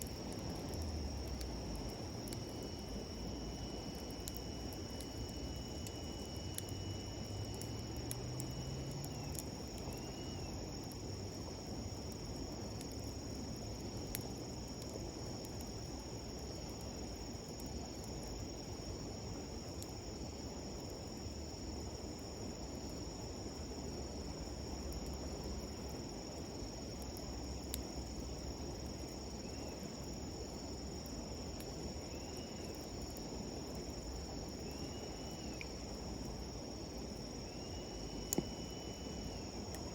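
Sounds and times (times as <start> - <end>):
campfire crackling and popping: 0.0 - 34.8, 38.2 - 38.6
insects trilling: 0.0 - 39.9.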